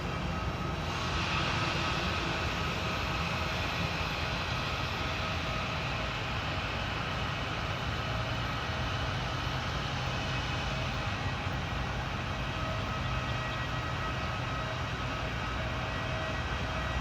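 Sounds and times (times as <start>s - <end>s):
faint steady whine: 0.0s - 17.0s
jet engines rumbling: 0.0s - 17.0s.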